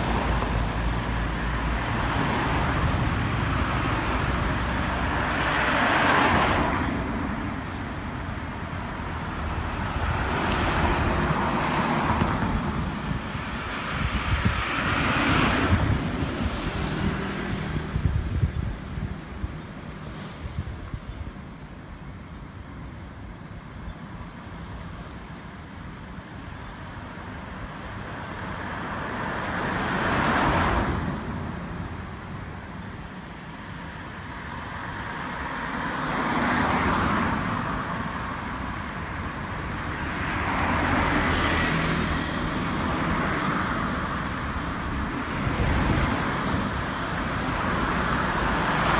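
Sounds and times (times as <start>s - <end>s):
vehicles passing: 0.0s - 21.8s, 24.5s - 48.9s.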